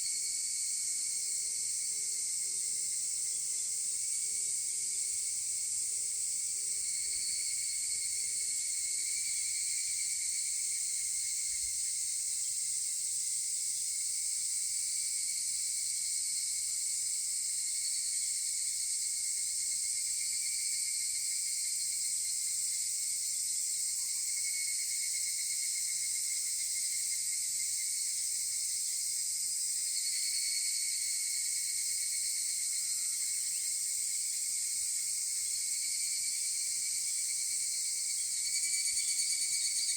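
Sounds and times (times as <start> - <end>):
high-pitched insect hiss: 0.0 - 39.9
cicadas trilling: 5.0 - 39.9.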